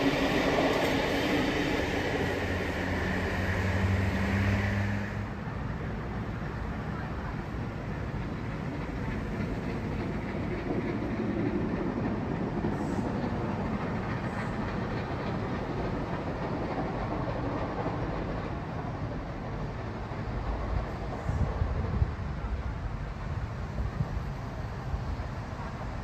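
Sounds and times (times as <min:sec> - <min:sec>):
train wheels on rail: 0:00.0 - 0:26.0.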